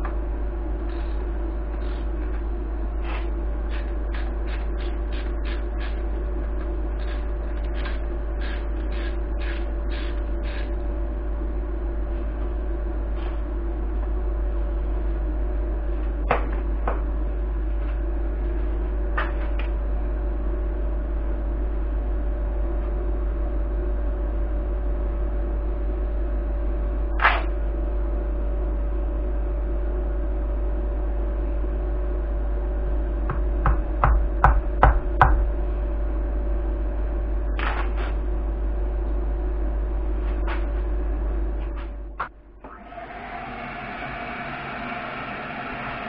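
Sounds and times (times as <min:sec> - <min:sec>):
shop vacuum running: 0:00.0 - 0:46.0
steady motor hum: 0:00.0 - 0:46.0.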